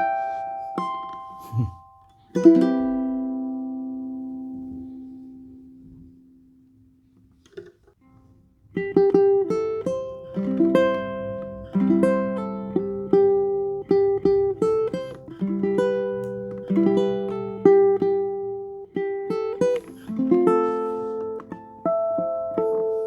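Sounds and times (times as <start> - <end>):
ukulele chord ringing: 0.0 - 6.5, 8.8 - 23.0
ukulele picked notes and chords: 0.0 - 7.8, 8.6 - 23.0.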